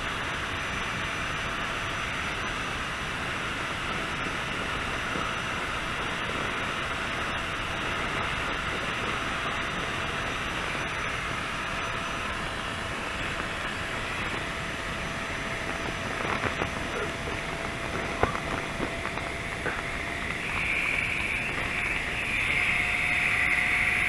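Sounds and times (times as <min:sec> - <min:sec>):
electric air pump running: 0:00.0 - 0:24.0.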